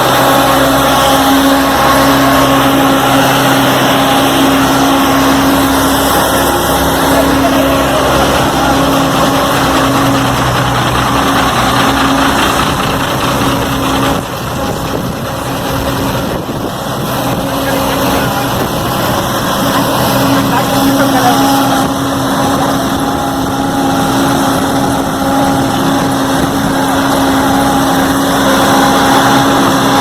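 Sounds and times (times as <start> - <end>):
diesel engine running: 0.0 - 30.0
road-paving machinery clatter: 0.0 - 30.0.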